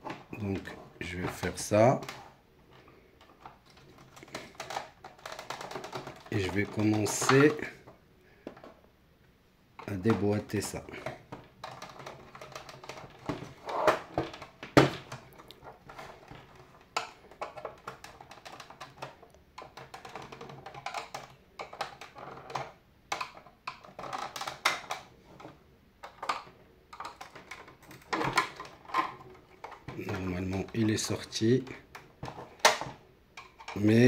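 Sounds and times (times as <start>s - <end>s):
plastic clicks and creaks: 0.0s - 8.8s, 9.8s - 34.0s.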